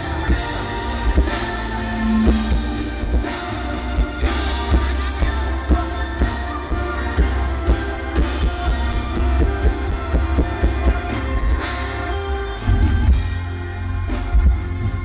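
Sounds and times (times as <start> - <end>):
band music: 0.0 - 15.0
drum kit steady beat: 0.0 - 15.0
heavy bass: 0.0 - 15.0.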